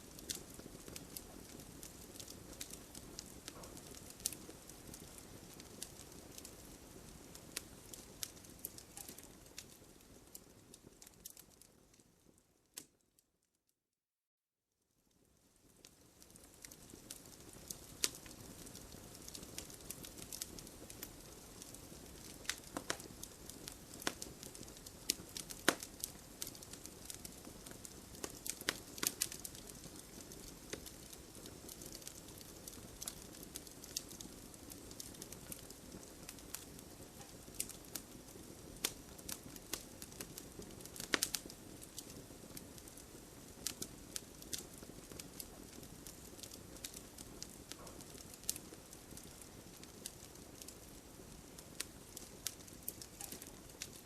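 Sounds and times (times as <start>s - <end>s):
campfire hissing: 0.0s - 11.4s, 15.7s - 54.0s
fire crackling and popping: 0.0s - 13.1s, 15.0s - 54.0s.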